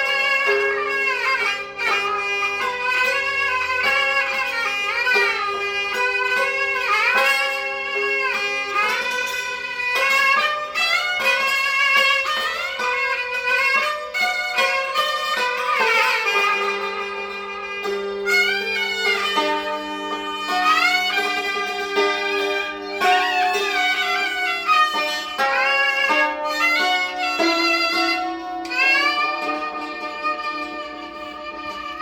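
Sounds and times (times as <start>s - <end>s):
bowed string melody: 0.0s - 32.0s
struck strings of a dulcimer: 0.0s - 32.0s.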